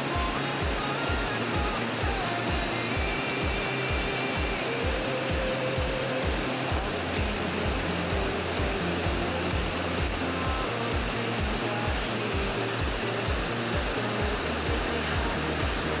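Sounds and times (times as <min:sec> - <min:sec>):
music with low beat: 0:00.0 - 0:16.0
rain hissing: 0:00.0 - 0:16.0.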